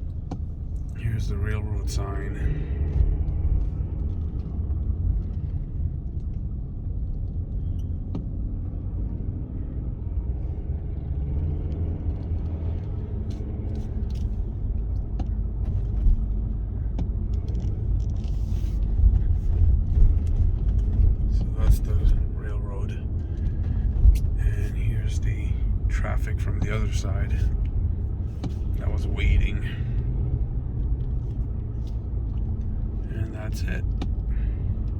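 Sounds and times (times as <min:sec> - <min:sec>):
car rumbling from inside cabin: 0:00.0 - 0:34.9.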